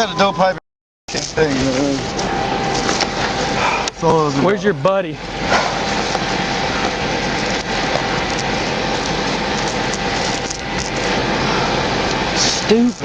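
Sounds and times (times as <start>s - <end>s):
steady rushing noise: 1.1s - 13.0s.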